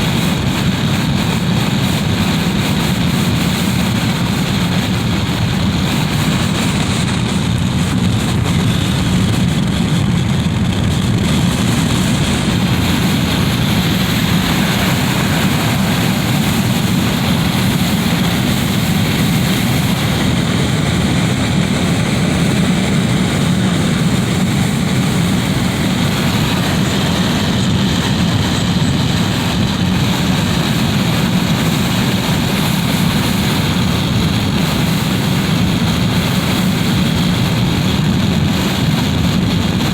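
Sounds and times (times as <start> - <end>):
wind rushing through window: 0.0 - 39.9.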